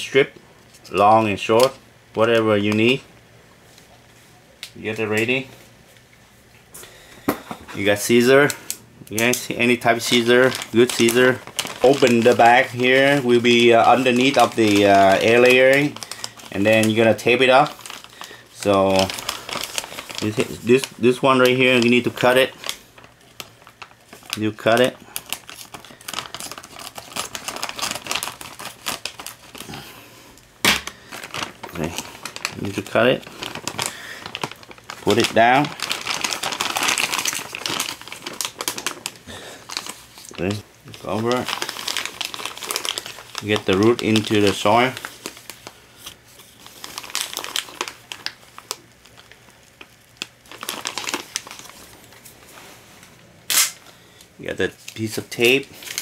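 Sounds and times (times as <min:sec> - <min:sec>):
plastic bag crinkling: 0:06.9 - 0:52.9, 0:53.5 - 0:56.0.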